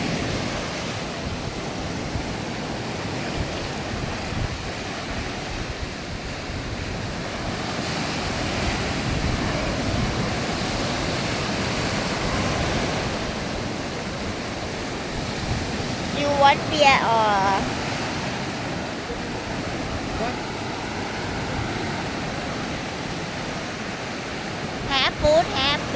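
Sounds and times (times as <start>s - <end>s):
surf washing onto beach: 0.0s - 25.9s
wind buffeting microphone: 0.0s - 25.9s.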